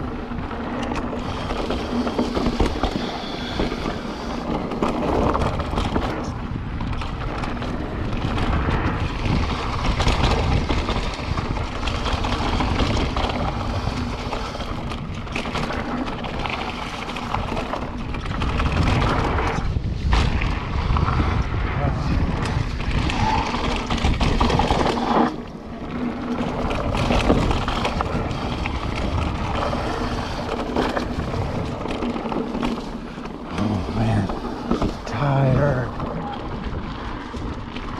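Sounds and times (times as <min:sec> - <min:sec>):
bike clicks and rattles: 0:00.0 - 0:37.9
tyres rushing on dirt: 0:00.0 - 0:37.9
wind buffeting microphone: 0:00.0 - 0:37.9.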